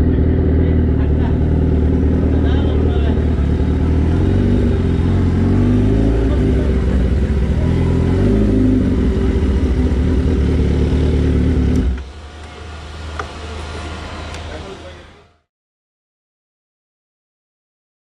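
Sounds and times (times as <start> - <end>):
motorcycle engine idling loudly: 0.0 - 15.0.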